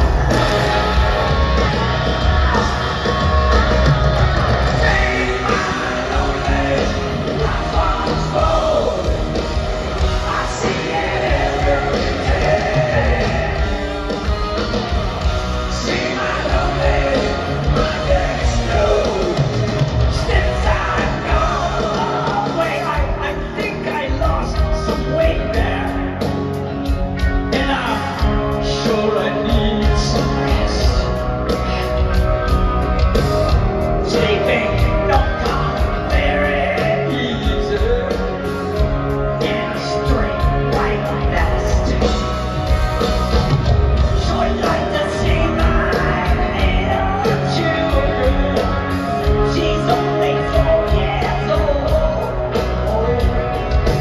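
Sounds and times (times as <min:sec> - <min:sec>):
lead vocalist singing: 0:00.0 - 0:14.7, 0:15.3 - 0:26.2, 0:27.4 - 0:32.2, 0:34.0 - 0:42.5, 0:43.6 - 0:54.0
live rock band playing: 0:00.0 - 0:54.0.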